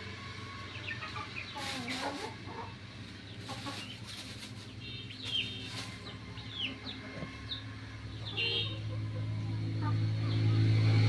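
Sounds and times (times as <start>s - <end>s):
chickens clucking: 0.3s - 10.9s.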